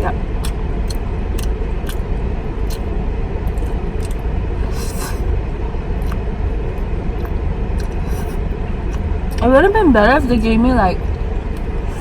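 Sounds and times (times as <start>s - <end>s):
car air conditioning rumble: 0.0s - 12.0s.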